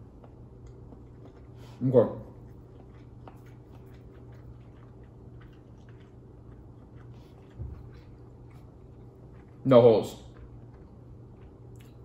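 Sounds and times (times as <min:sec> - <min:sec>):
quiet chewing: 0:00.0 - 0:12.0
steady low hum: 0:00.0 - 0:12.0.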